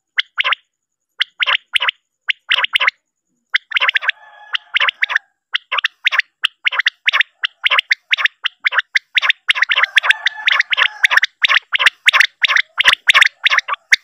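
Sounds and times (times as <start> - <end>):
quail calls: 0.0 - 0.6, 1.2 - 14.0.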